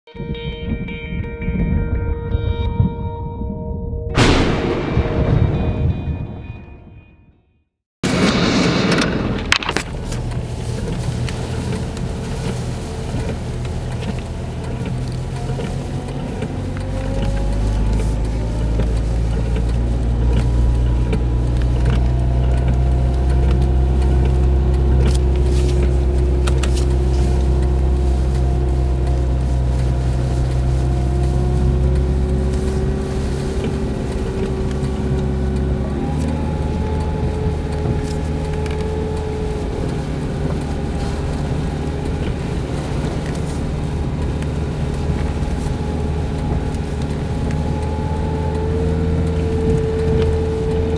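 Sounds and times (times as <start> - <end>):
car engine running: 8.0 - 50.9.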